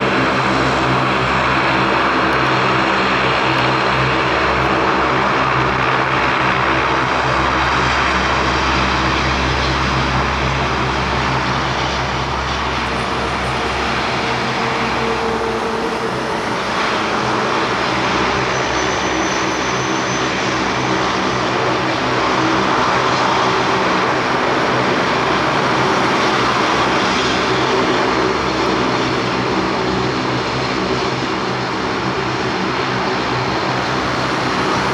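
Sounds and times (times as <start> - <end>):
turboprop engines droning: 0.0 - 34.9.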